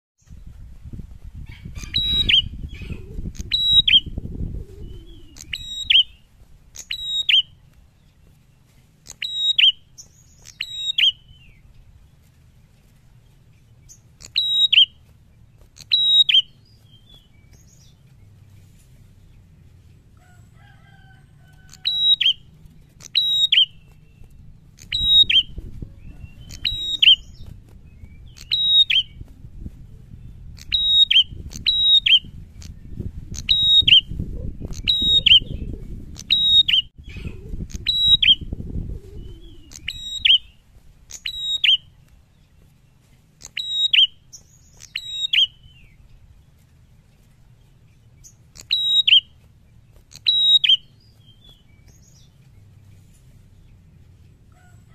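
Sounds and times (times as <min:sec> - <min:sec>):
low background rumble: 0:00.2 - 0:43.5, 0:44.1 - 0:50.2, 0:50.8 - 0:54.9.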